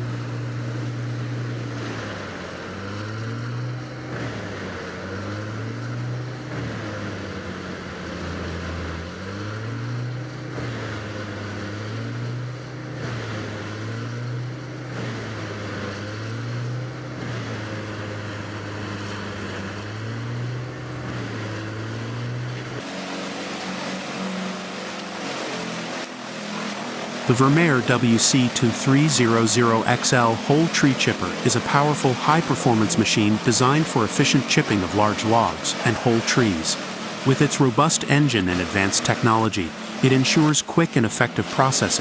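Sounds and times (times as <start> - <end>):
heavy machine engine running: 0.0 - 42.0.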